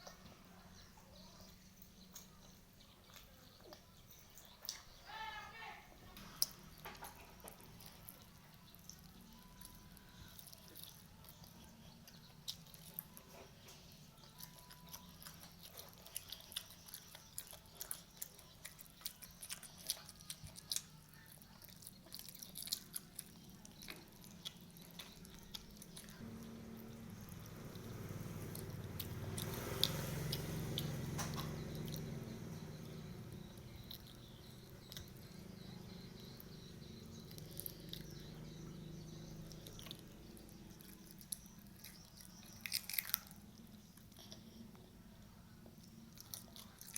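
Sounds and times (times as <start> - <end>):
chewing crunchy fried food: 0.0 - 5.1, 6.1 - 46.9.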